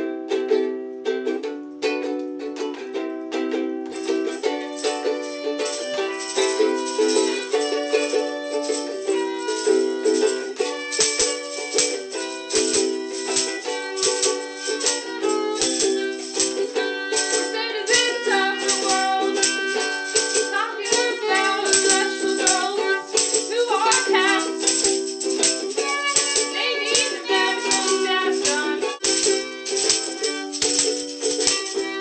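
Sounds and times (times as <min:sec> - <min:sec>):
strummed chords: 0:00.0 - 0:32.0
shaker beat: 0:03.9 - 0:32.0.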